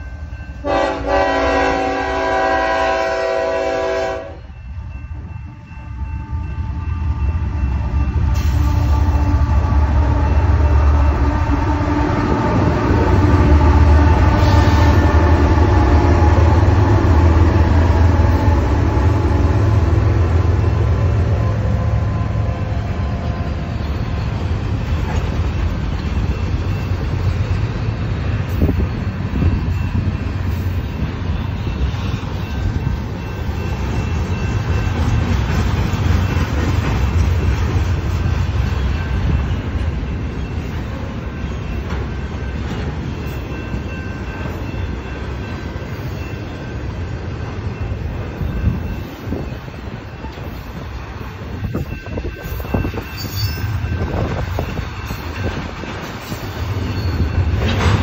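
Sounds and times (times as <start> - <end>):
steel wheels rumbling on track: 0.0 - 58.0
locomotive low drone: 4.4 - 53.1.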